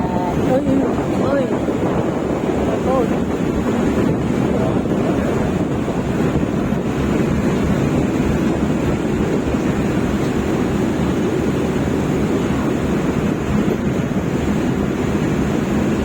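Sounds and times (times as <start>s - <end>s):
sea: 0.0s - 16.0s
wind buffeting microphone: 0.0s - 16.0s.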